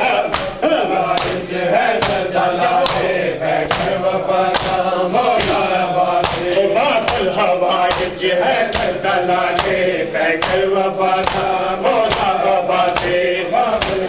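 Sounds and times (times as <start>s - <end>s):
men chanting: 0.0s - 14.0s
chest-beating slaps: 0.3s - 9.0s, 9.6s - 9.8s, 10.4s - 13.2s, 13.8s - 14.0s.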